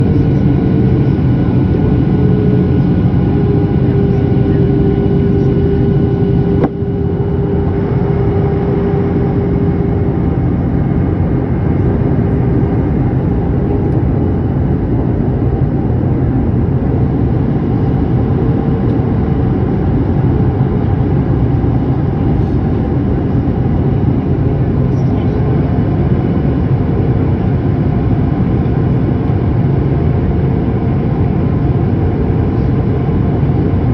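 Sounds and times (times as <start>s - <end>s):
jet engine roar inside cabin: 0.0s - 33.9s.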